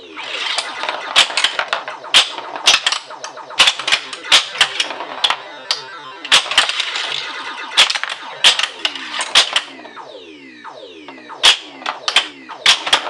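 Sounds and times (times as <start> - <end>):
falling synthesized tones: 0.0 - 13.0
pinball electronic sound effects: 0.0 - 13.0.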